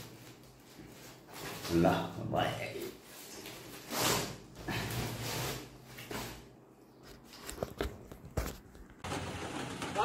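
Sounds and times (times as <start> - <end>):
plastic sack rustling: 0.0 - 10.0.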